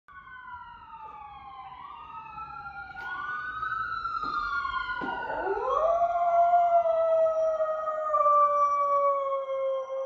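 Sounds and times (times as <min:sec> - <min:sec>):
emergency vehicle sirens wailing: 0:00.1 - 0:10.0.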